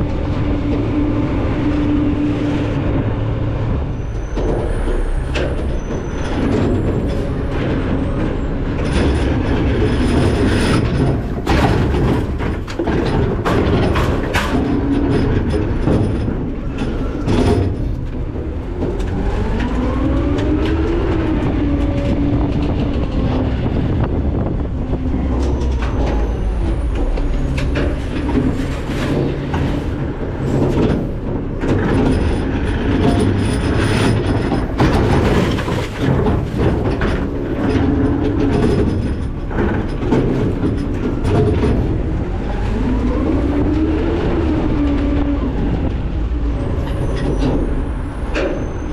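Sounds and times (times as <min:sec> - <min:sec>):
garbage truck engine rumble: 0:00.0 - 0:48.9
metallic clanks and bangs: 0:03.9 - 0:43.9.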